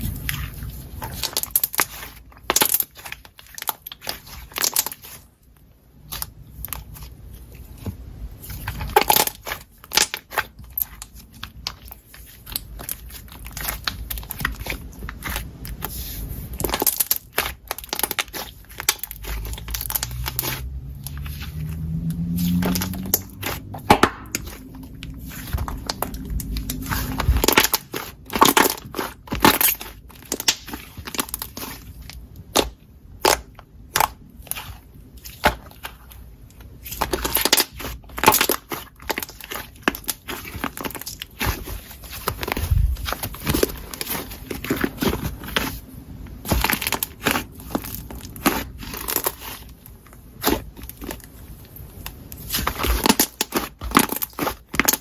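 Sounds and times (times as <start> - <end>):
slime crackling and popping: 0.0 - 5.3, 8.4 - 55.0.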